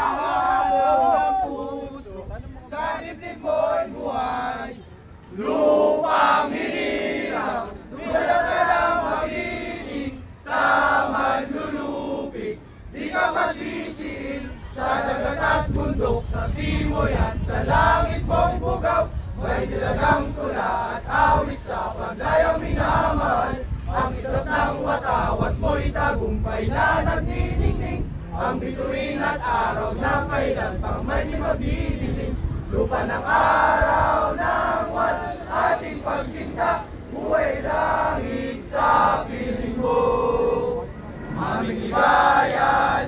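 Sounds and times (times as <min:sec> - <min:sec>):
crowd chanting and shouting: 0:00.0 - 0:43.0.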